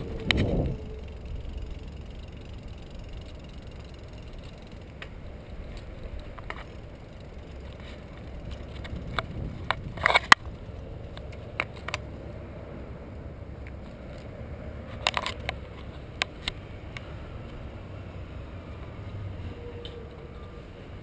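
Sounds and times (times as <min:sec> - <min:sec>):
bicycle clicks and rattles: 0:00.0 - 0:12.3, 0:13.6 - 0:21.0
bicycle tyres rumbling: 0:00.0 - 0:21.0.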